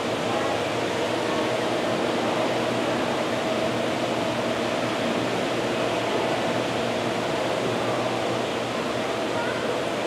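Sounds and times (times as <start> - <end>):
pumps and ventilation hum: 0.0 - 10.0.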